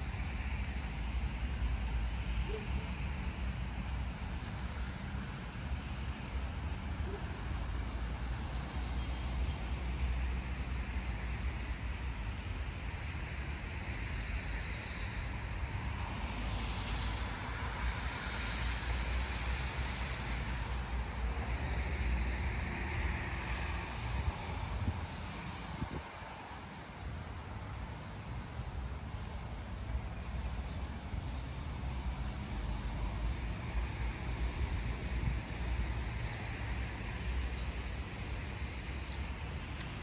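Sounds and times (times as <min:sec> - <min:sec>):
cars passing on wet road: 0:00.0 - 0:02.4, 0:03.0 - 0:40.0
low traffic rumble: 0:00.0 - 0:40.0.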